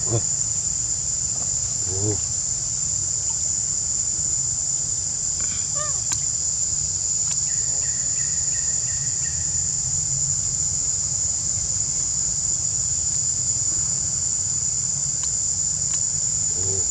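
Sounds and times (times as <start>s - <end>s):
high-pitched insect drone: 0.0s - 16.9s.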